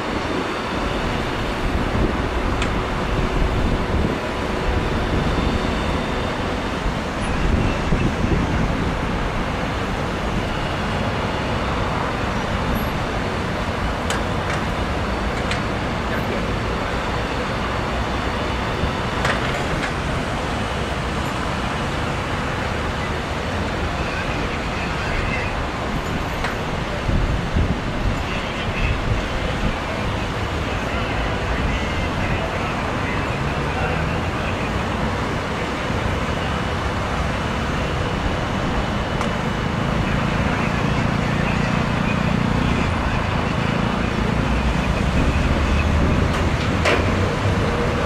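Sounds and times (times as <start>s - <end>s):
road traffic: 0.0s - 48.0s.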